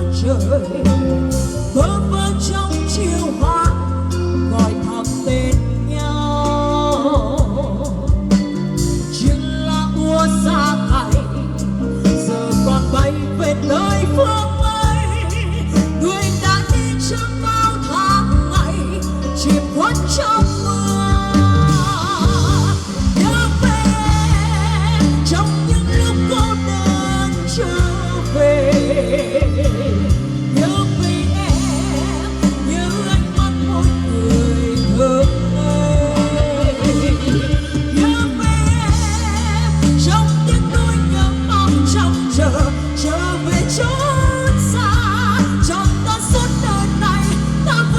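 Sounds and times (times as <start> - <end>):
person singing with vibrato: 0.0 - 47.9
pop backing track with heavy bass: 0.0 - 47.9.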